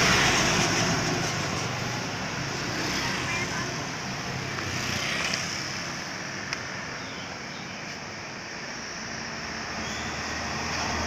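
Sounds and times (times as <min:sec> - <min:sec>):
roadside traffic noise: 0:00.0 - 0:11.0.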